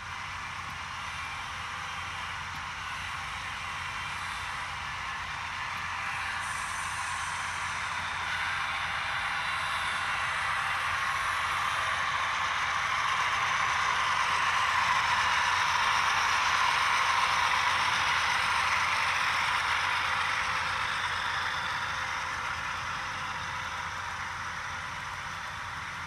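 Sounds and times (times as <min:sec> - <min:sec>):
model train wheels clattering: 0:00.0 - 0:26.0.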